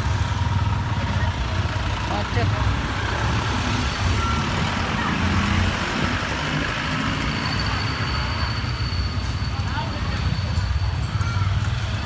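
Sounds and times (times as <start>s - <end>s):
traffic engines running: 0.0s - 12.0s.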